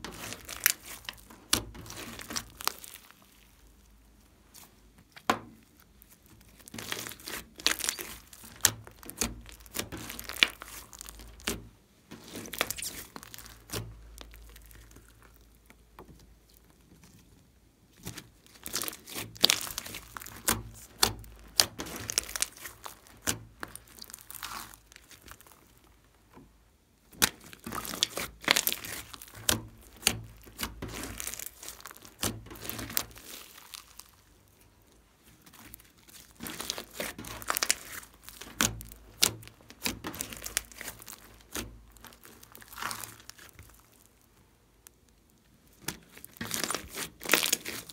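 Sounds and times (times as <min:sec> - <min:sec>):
slime crackling when kneaded: 0:00.0 - 0:47.9.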